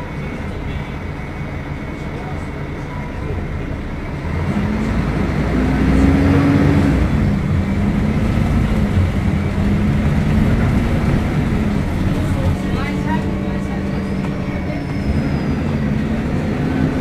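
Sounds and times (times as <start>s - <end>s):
bus diesel engine pulling: 0.0s - 17.0s.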